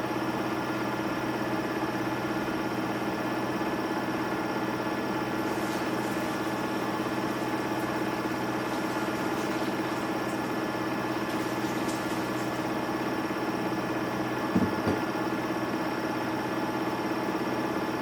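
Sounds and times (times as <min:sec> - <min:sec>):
washing machine motor hum: 0:02.2 - 0:17.9.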